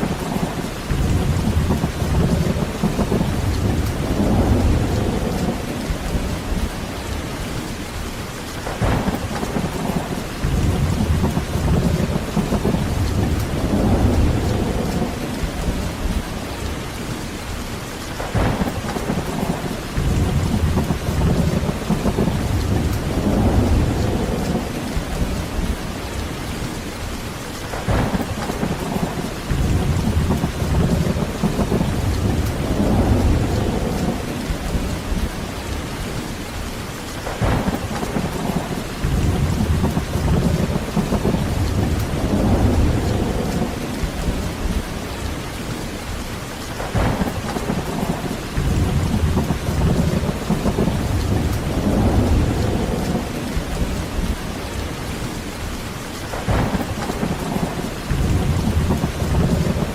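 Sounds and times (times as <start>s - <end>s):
sharp thunder cracks: 0.0s - 6.7s, 8.6s - 16.2s, 18.2s - 25.7s, 27.7s - 35.3s, 37.2s - 44.8s, 46.8s - 54.3s, 56.3s - 59.9s
rolling thunder: 0.0s - 8.0s, 8.6s - 16.8s, 18.1s - 27.1s, 27.7s - 36.6s, 37.2s - 45.6s, 46.6s - 59.9s
heavy rain: 0.0s - 59.9s.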